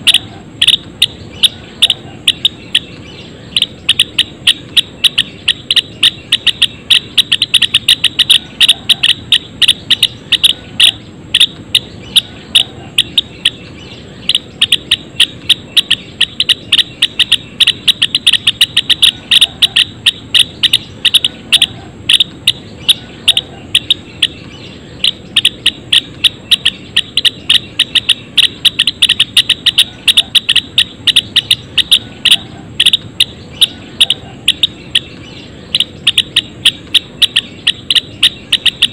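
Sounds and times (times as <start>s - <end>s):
sparrows chip calls: 0.0s - 38.9s.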